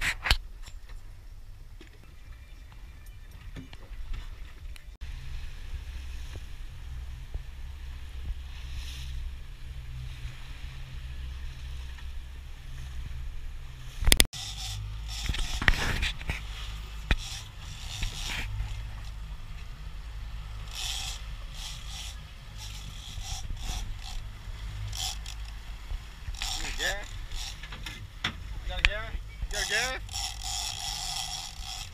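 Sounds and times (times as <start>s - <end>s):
rushing wake water: 0.0s - 31.9s
boat engine droning: 0.5s - 31.9s.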